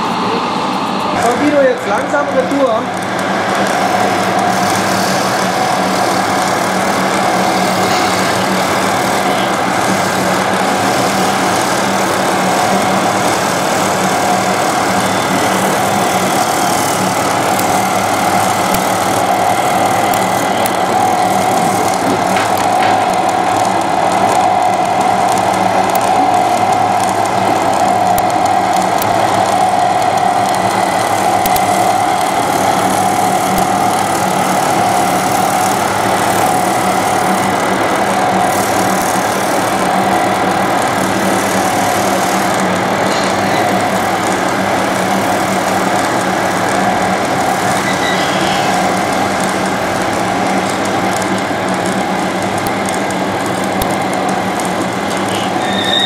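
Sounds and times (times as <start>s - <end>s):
model engine drone: 0.0s - 56.0s.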